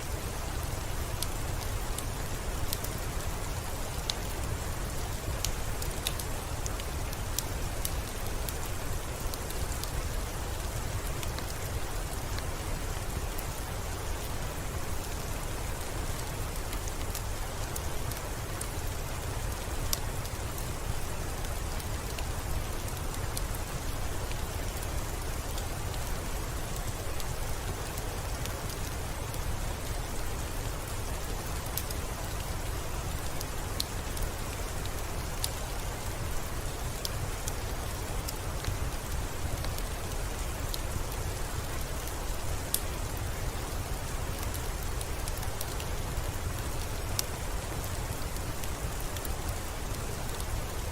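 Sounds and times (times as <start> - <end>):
steady rainfall: 0.0 - 50.9.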